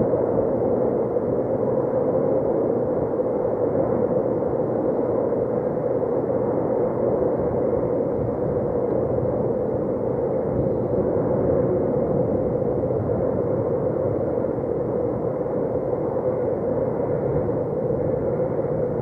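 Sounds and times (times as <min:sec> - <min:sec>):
wind blowing on microphone: 0:00.0 - 0:19.0.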